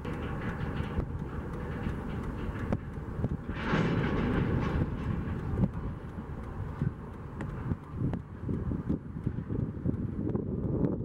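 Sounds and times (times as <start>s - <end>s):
train rumbling past: 0.0s - 10.2s
wheels clicking and knocking: 0.0s - 11.0s.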